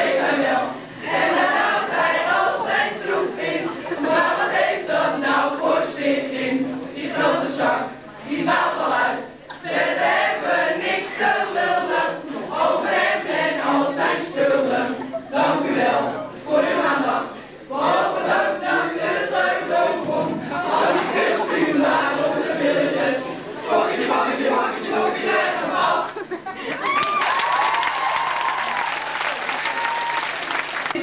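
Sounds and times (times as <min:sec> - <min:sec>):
group of voices singing: 0:00.0 - 0:26.8.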